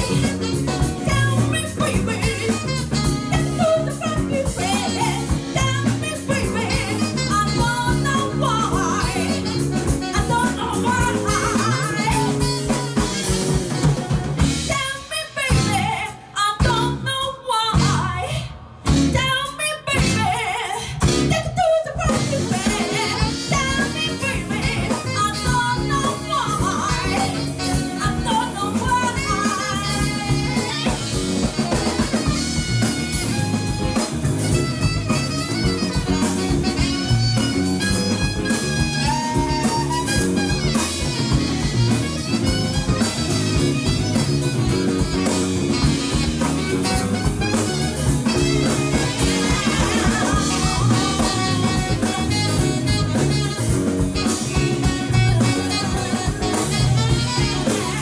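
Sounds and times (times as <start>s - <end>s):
live blues rock band: 0.0s - 58.0s.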